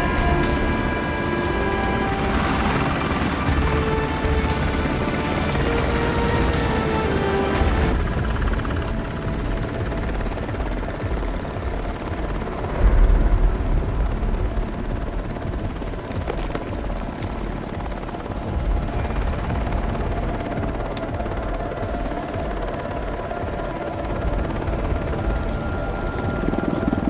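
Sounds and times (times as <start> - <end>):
helicopter rotor rumble: 0.0 - 27.0.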